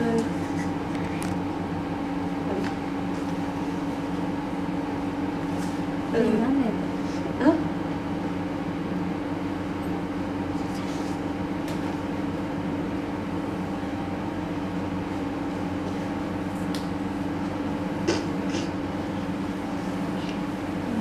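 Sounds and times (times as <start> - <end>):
mechanical hum with drone: 0.0 - 21.0.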